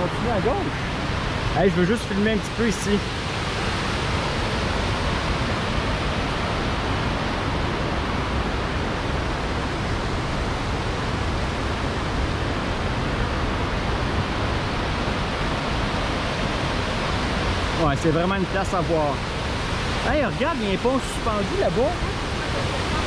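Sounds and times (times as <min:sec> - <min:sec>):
waterfall rushing over rocks: 0:00.0 - 0:23.0.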